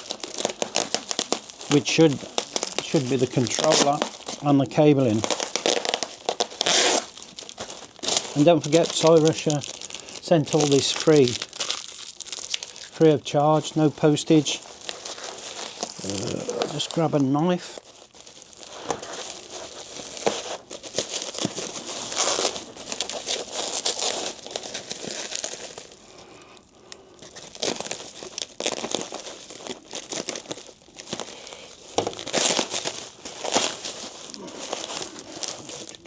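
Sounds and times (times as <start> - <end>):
packaging bag crinkling and tearing: 0.0 - 36.0.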